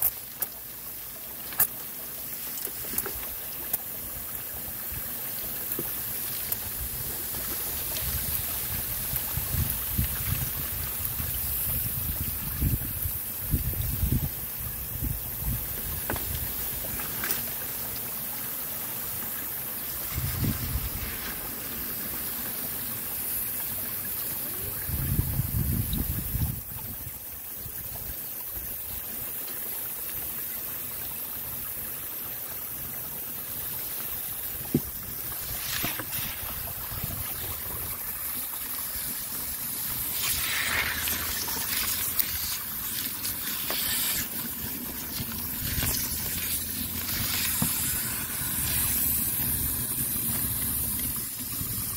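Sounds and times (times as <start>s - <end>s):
hose nozzle spraying water: 0.0s - 24.2s, 33.4s - 51.9s.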